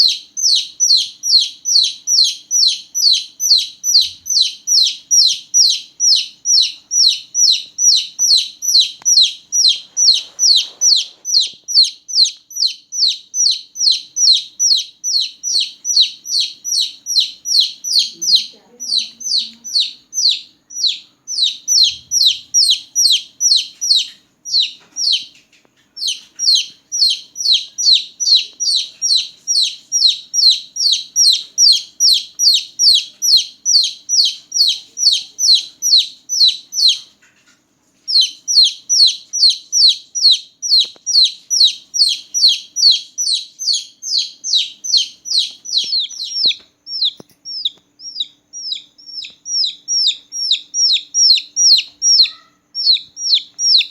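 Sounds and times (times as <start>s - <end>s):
chicks peeping: 0.0s - 53.9s.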